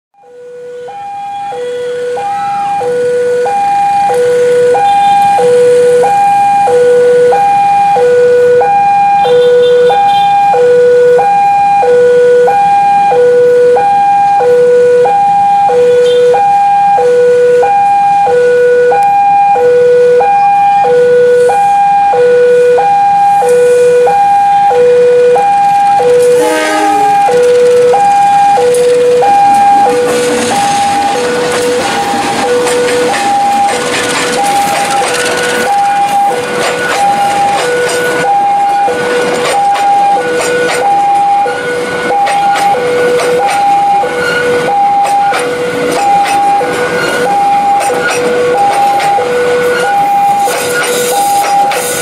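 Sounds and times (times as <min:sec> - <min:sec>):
level crossing two-tone alarm: 0:00.2 - 0:52.0.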